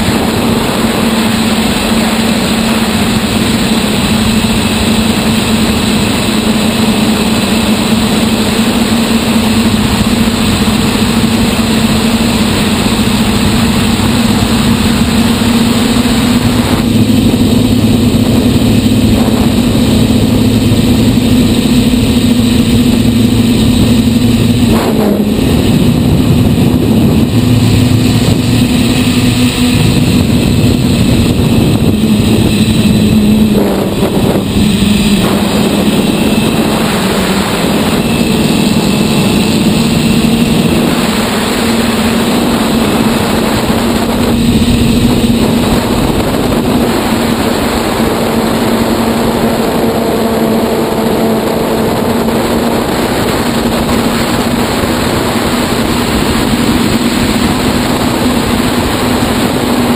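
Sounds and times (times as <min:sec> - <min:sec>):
drone motors buzzing: 0:00.0 - 0:59.9.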